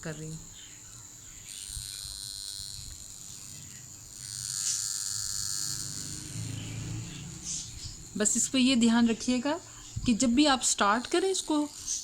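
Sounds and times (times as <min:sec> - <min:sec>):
facial machine high-pitched whine: 0:00.0 - 0:12.0.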